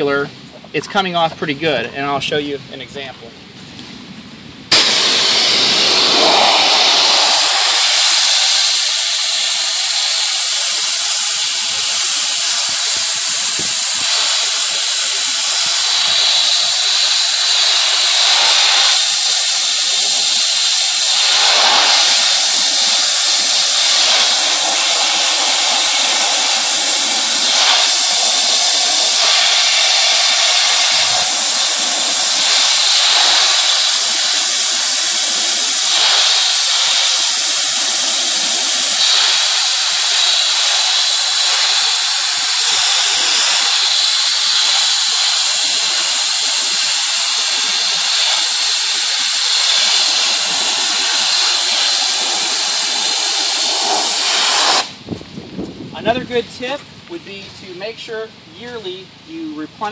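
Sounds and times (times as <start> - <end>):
pressure washer spraying siding: 4.7 - 59.9.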